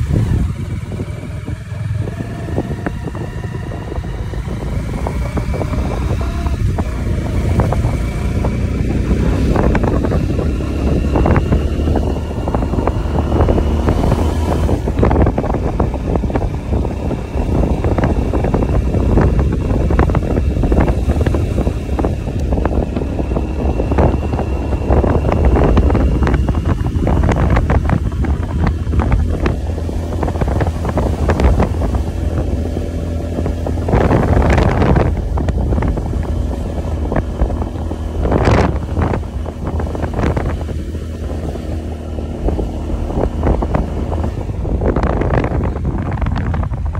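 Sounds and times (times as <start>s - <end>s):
motorcycle engine and tyres: 0.0s - 46.9s
wind buffeting microphone: 0.0s - 46.9s.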